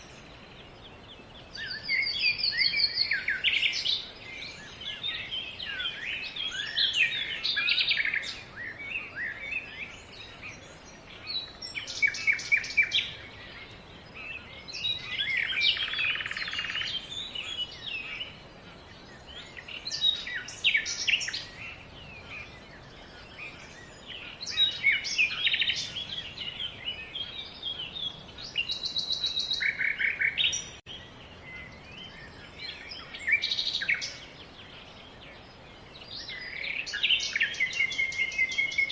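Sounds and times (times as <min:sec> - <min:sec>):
faint background hiss: 0:00.0 - 0:38.9
songbirds singing and calling: 0:00.0 - 0:38.9.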